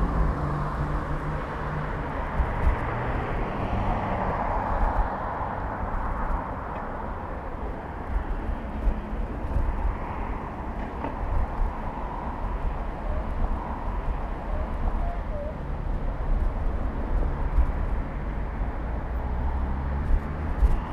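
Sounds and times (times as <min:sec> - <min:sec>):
passing vehicle: 0:00.0 - 0:20.9
road traffic: 0:00.0 - 0:20.9
wind rumble on microphone: 0:00.0 - 0:20.9.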